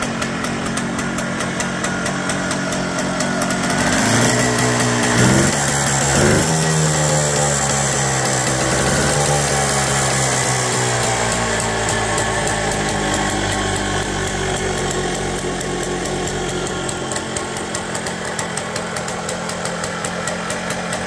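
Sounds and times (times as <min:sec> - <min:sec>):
regular engine ticking: 0:00.0 - 0:21.0
two-stroke engine idling: 0:00.0 - 0:21.0.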